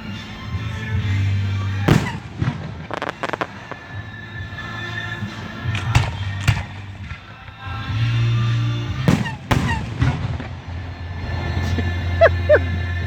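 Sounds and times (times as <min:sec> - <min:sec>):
fireworks bursting with bangs: 0:00.0 - 0:11.4
fireworks crackling: 0:00.0 - 0:11.6.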